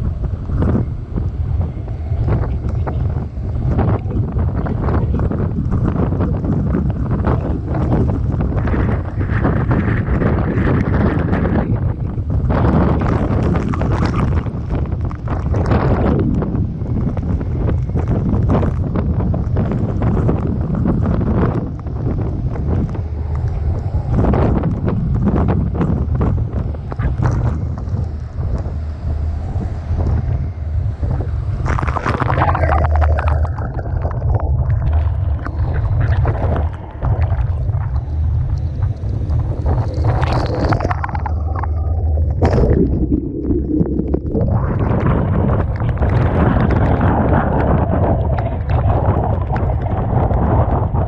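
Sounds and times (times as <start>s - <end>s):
rough sea and spray rushing: 0.0s - 51.0s
wind buffeting microphone: 0.0s - 51.0s.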